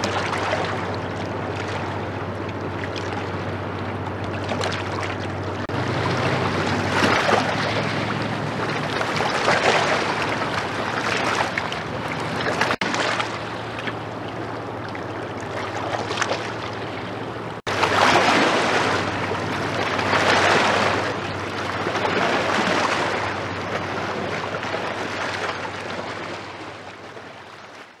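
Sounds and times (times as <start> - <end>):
ship diesel engine drone: 0.0 - 27.7
river water rushing and splashing: 0.0 - 28.0.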